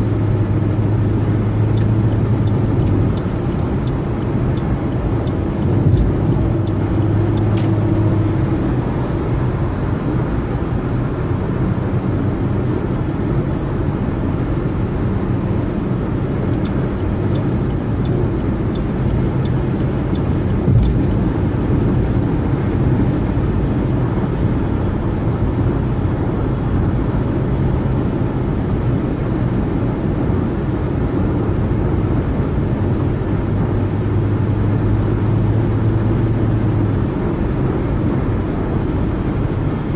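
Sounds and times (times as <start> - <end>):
low engine drone: 0.0 - 39.9
tyre and road noise: 0.0 - 39.9.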